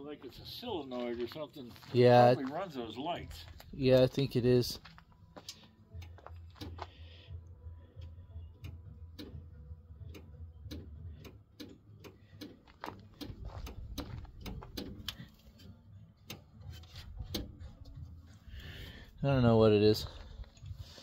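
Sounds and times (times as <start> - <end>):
low steady hum: 3.2 - 21.0.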